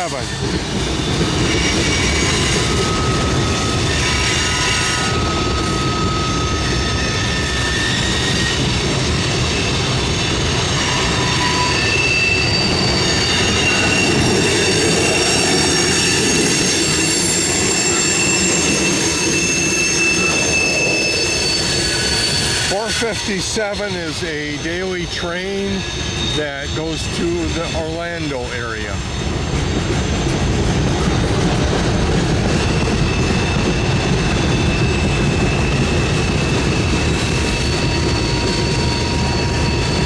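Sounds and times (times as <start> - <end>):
high-pitched wheel squeal: 0.0 - 40.0
train wheels rumbling on rail: 0.0 - 40.0.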